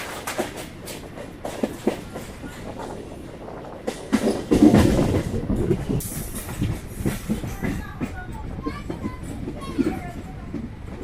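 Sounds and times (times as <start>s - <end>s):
train wheels clattering on rails: 0.0s - 11.0s.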